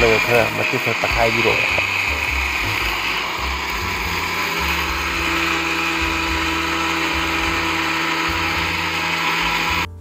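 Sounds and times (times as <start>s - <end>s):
mixer grinder whirring: 0.0s - 9.9s.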